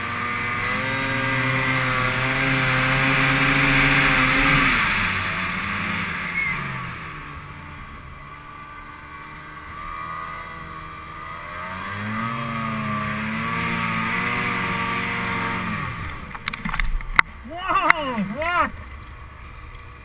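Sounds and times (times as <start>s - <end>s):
snowmobile engine: 0.0s - 20.0s.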